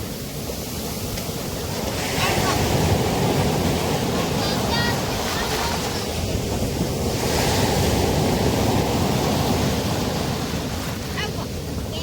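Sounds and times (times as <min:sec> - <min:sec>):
sea waves breaking on shore: 0:00.0 - 0:12.0.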